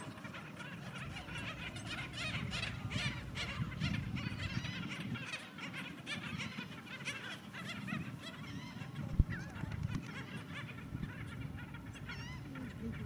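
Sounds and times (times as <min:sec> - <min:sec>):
flock of birds calling: 0:00.0 - 0:13.0
low background rumble: 0:00.2 - 0:13.0.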